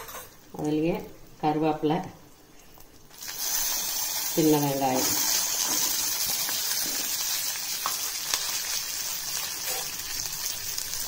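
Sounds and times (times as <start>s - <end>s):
onions sizzling in hot oil: 0.4s - 11.0s.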